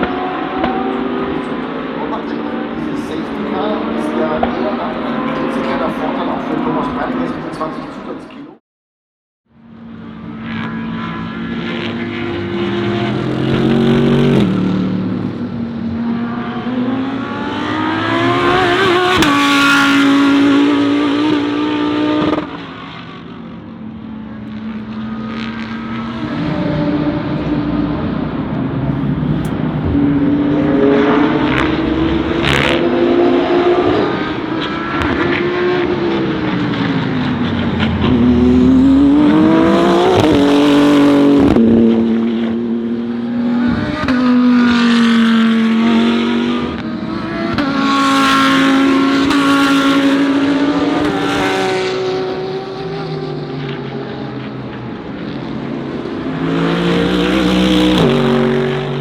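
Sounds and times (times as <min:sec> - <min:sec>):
race cars passing: 0:00.0 - 0:08.6, 0:09.6 - 0:59.0.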